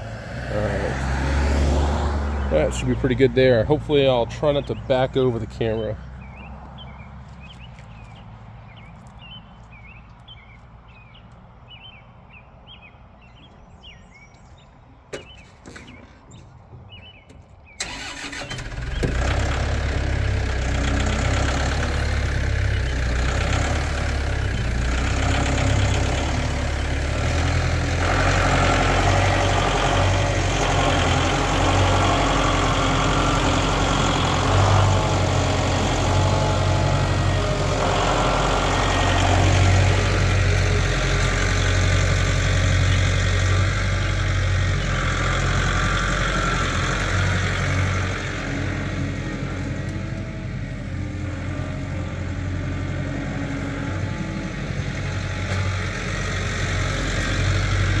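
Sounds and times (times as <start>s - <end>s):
tractor diesel engine: 0.0s - 11.1s, 14.9s - 58.0s.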